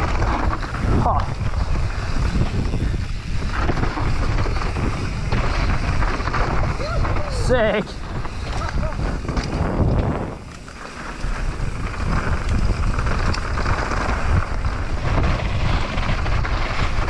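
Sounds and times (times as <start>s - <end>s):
bike tyres rolling over dirt: 0.0s - 17.0s
wind on microphone: 0.0s - 17.0s.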